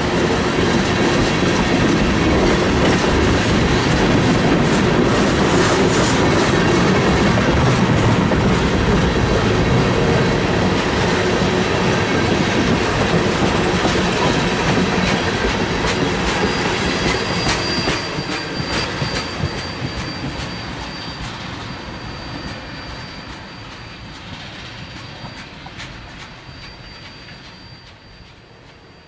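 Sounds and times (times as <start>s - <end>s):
high flange squeal: 0.0s - 29.0s
train wheels clicking over rails: 0.0s - 29.0s.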